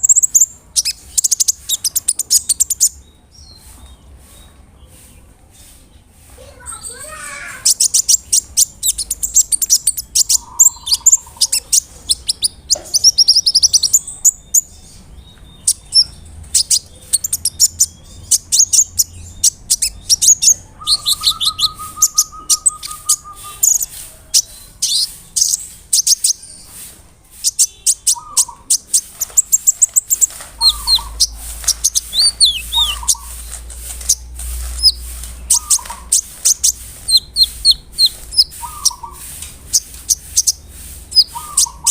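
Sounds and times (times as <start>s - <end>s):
bird chirping and trilling: 0.0s - 41.9s.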